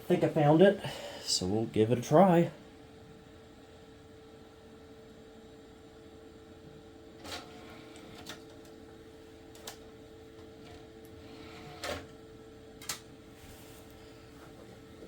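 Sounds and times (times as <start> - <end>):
computer hum and whine: 0.0 - 15.0.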